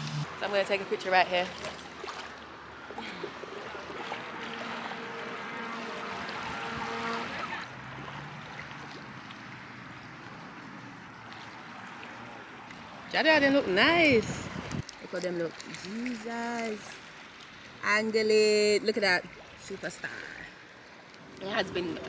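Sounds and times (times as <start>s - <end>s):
river water flowing and lapping: 0.0s - 22.0s.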